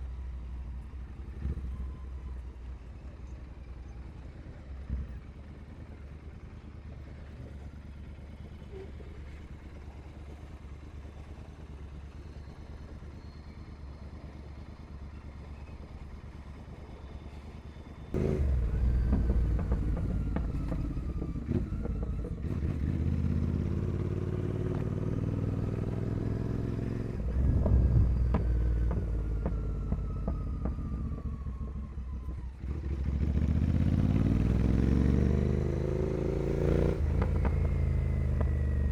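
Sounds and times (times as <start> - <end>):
motorcycle engine revving: 3.7 - 38.9.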